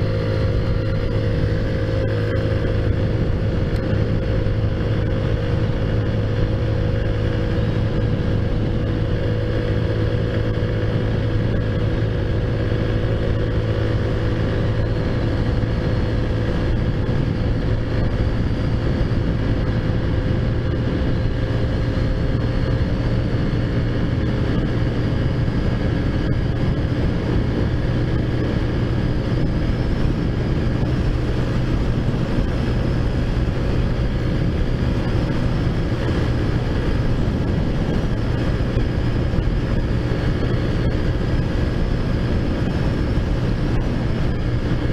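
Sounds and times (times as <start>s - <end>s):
scooter engine cruising: 0.0s - 44.9s.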